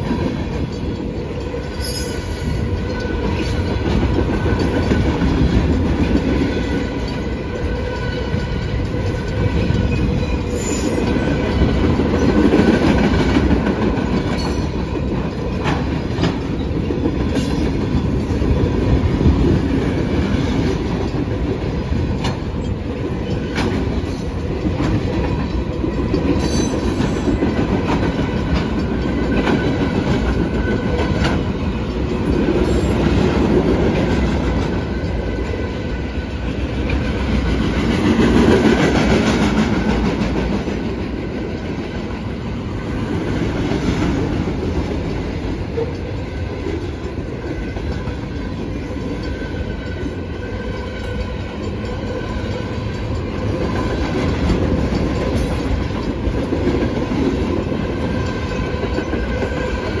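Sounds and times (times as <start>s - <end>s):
train wheels rumbling on rails: 0.0s - 60.0s
wheels clacking over rail joints: 0.0s - 60.0s.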